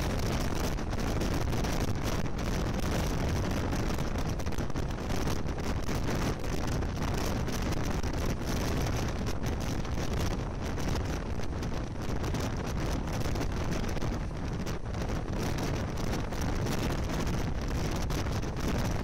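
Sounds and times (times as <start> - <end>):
moving train rumble: 0.0 - 19.0
wind buffeting microphone: 0.0 - 19.0.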